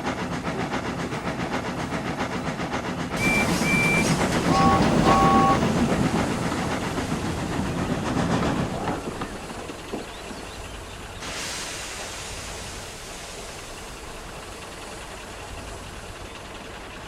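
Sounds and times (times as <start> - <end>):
steam hissing: 0.0 - 17.0
steam locomotive rumble: 0.0 - 17.0.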